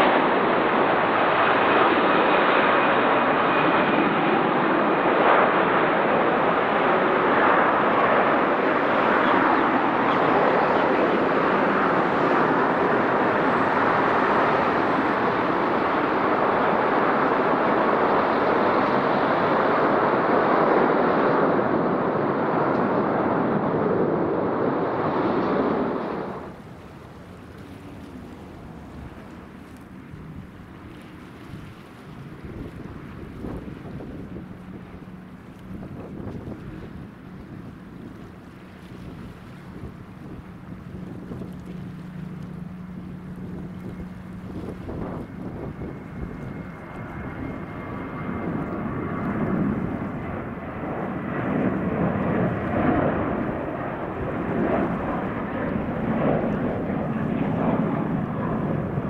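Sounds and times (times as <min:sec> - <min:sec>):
jet engines roaring: 0:00.0 - 0:59.0
wind on microphone: 0:00.0 - 0:59.0.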